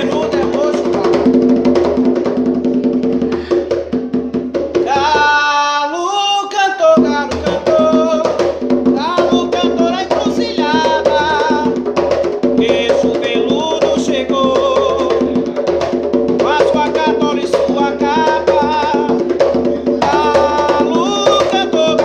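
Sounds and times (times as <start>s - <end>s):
person singing: 0.0s - 1.6s, 4.7s - 22.0s
conga drums played by hand: 0.0s - 22.0s.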